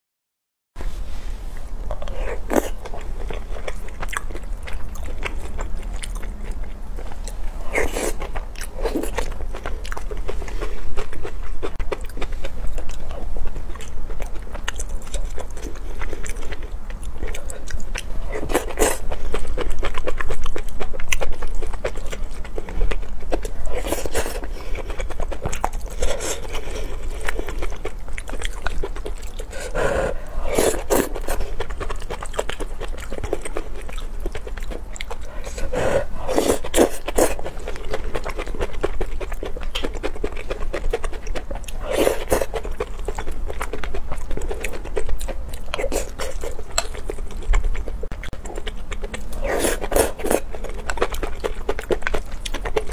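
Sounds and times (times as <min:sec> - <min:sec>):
chewing and biting noodles: 0:01.9 - 0:52.9.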